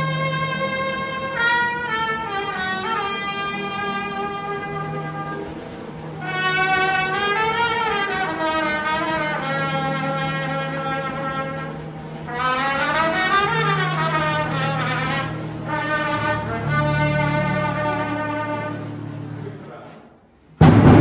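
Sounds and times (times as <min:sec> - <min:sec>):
trumpet solo: 0:00.0 - 0:19.3
brass band music: 0:00.0 - 0:19.9, 0:20.6 - 0:21.0.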